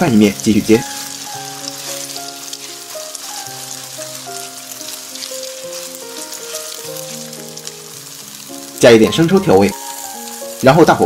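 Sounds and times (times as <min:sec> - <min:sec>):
background music: 0:00.0 - 0:11.0
egg sizzling in hot oil: 0:00.0 - 0:11.0.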